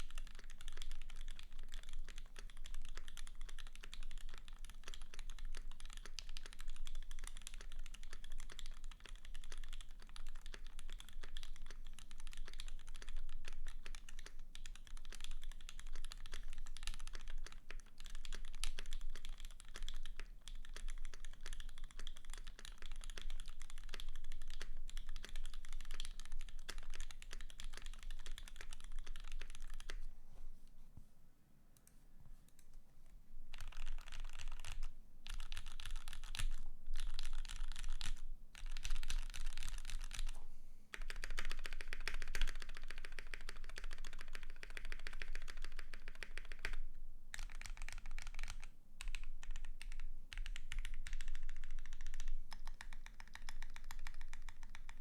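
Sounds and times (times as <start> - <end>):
mechanical keyboard typing: 0.0 - 30.0, 33.5 - 55.0.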